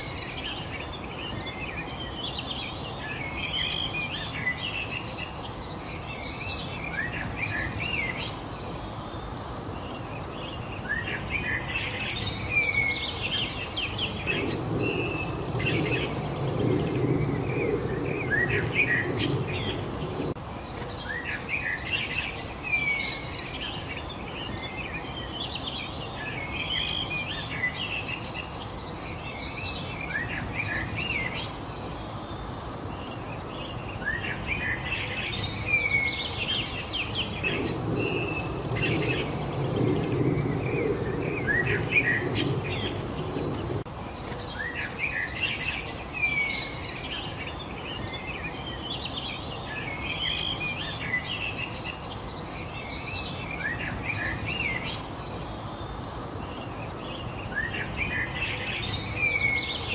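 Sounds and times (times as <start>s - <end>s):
low background noise: 0.0s - 59.9s
small birds chirping: 0.0s - 59.9s.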